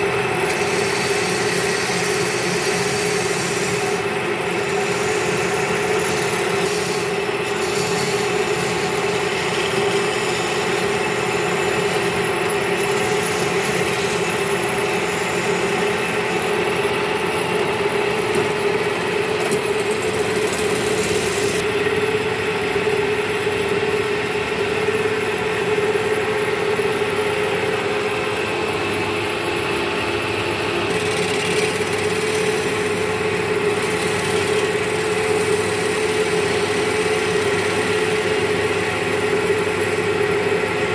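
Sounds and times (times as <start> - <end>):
chisel scraping spinning wood: 0.0 - 22.2, 29.6 - 40.9
wood lathe motor hum: 0.0 - 40.9.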